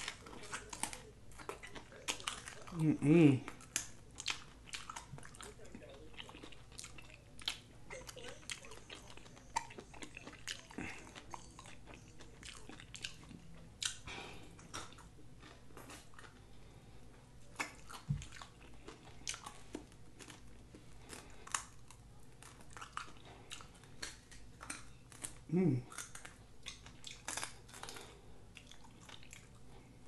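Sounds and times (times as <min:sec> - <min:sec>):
crunching fried chicken: 0:00.0 - 0:16.7, 0:17.4 - 0:29.9
wet chewing: 0:00.0 - 0:30.0.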